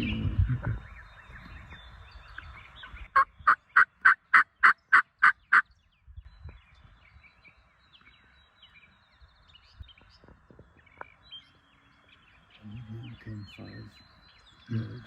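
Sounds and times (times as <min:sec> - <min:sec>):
faint songbirds singing: 0:00.0 - 0:15.0.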